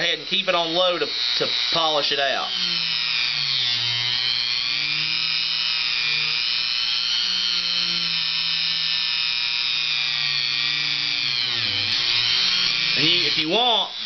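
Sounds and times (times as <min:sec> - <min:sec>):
rotary tool motor whine: 0:00.0 - 0:14.0.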